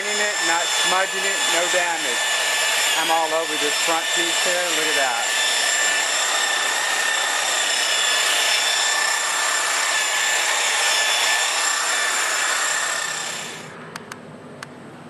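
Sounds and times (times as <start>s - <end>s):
polishing buffer motor whine: 0.0s - 13.8s.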